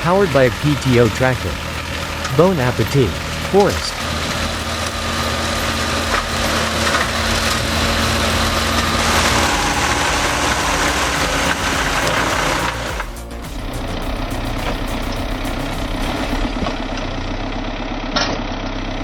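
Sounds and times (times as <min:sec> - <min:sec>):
mulcher shredding branches: 0:00.0 - 0:17.2
tractor engine running under load: 0:00.0 - 0:19.0.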